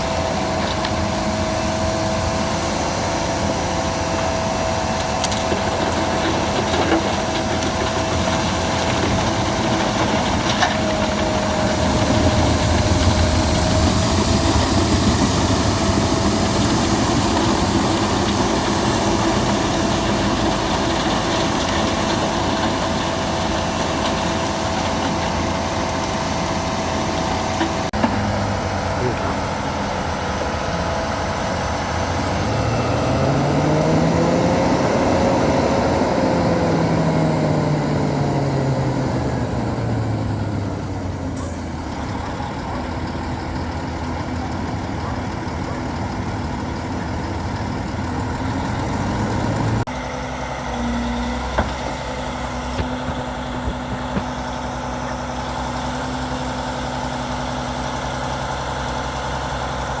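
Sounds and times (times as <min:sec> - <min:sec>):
wood chipper engine running: 0:00.0 - 1:00.0.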